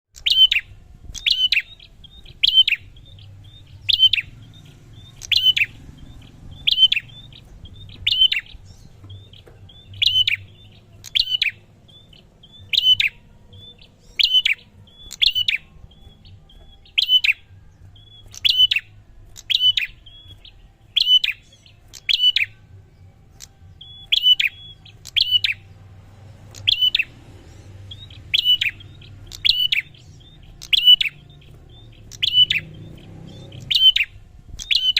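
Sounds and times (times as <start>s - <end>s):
bird calling sharp high notes: 0.2s - 34.9s.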